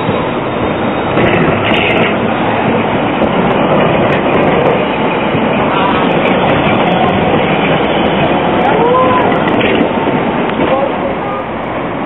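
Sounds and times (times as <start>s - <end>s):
tram wheels rolling on rails: 0.0s - 12.0s.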